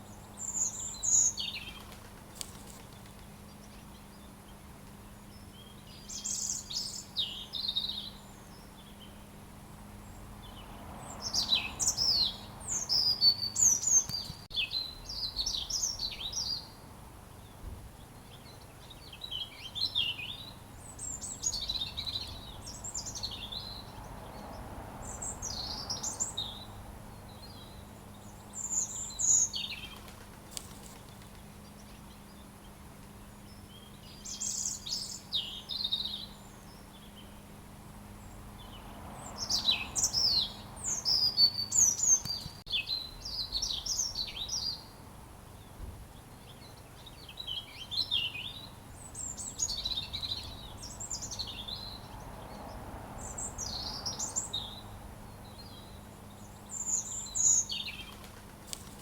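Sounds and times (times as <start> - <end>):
robin singing: 0.0 - 9.4, 10.0 - 16.8, 17.4 - 59.0.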